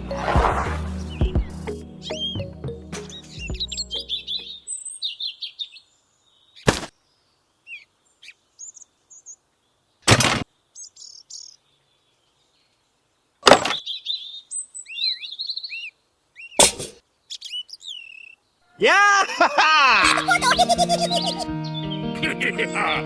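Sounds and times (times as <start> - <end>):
birds chirping: 0.0 - 13.1, 13.7 - 23.0.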